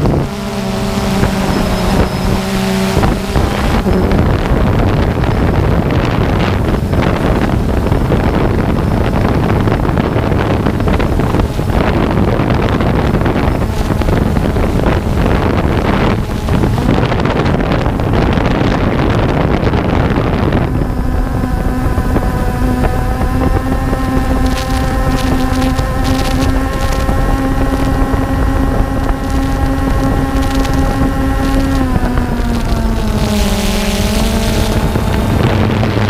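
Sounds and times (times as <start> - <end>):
drone propellers buzzing: 0.0 - 36.0
wind noise on microphone: 0.0 - 36.0.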